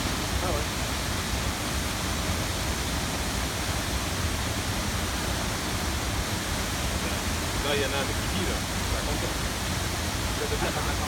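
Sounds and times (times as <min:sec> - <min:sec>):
waterfall roar: 0:00.0 - 0:11.0.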